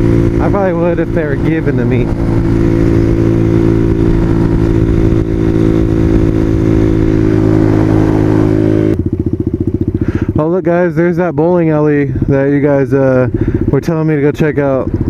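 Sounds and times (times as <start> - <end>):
wind noise: 0.0 - 10.4, 11.9 - 15.0
motorcycle engine running: 0.0 - 15.0.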